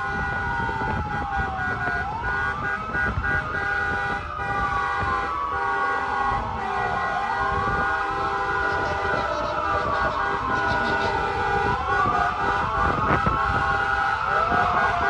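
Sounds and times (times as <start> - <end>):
fire truck sirens wailing: 0.0 - 15.0
held horn tones: 2.4 - 15.0.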